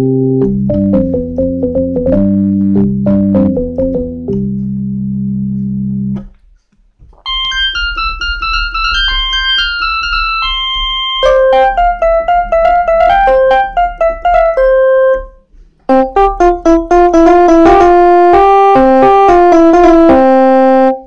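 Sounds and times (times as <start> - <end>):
electronic keyboard playing: 0.0 - 6.3, 7.2 - 21.0.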